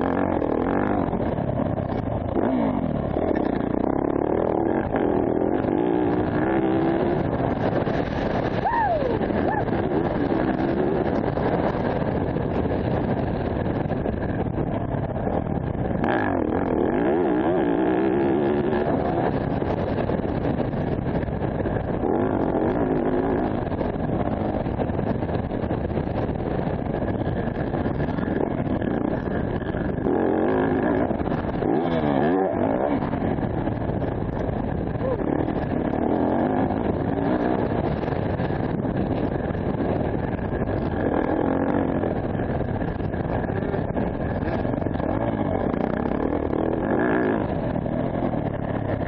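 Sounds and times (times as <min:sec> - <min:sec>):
dirt bike engine revving: 0:00.0 - 0:14.2, 0:15.9 - 0:20.6, 0:27.0 - 0:49.0.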